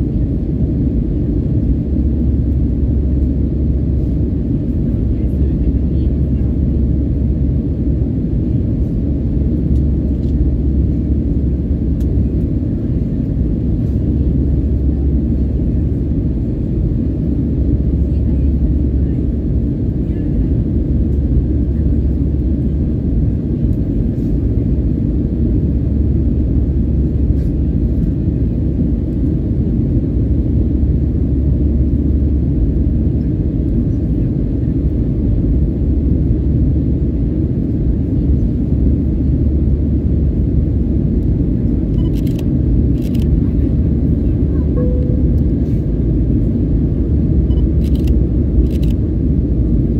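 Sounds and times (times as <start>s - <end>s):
jet engine rumble in cabin: 0.0s - 49.9s.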